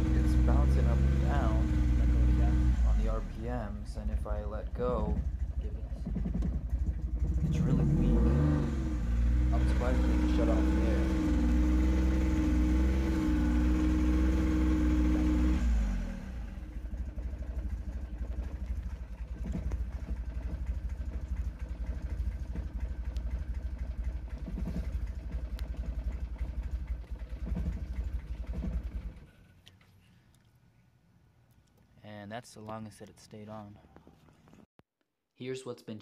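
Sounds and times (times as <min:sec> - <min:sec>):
car engine revving and stalling: 0:00.0 - 0:29.6.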